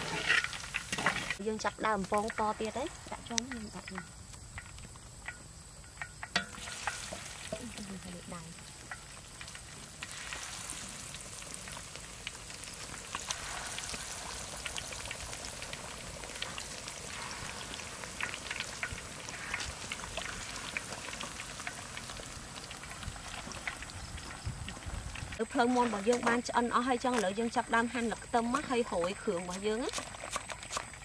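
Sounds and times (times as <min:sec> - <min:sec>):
hot oil sizzling and crackling: 0:00.0 - 0:31.0.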